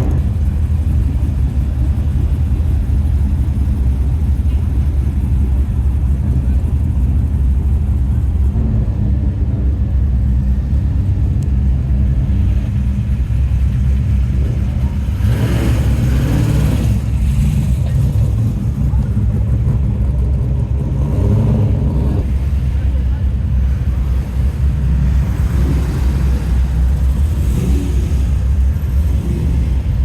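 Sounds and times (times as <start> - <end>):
car engine and exhaust surge: 0.0 - 30.0
rally car engines rumbling: 0.0 - 30.0.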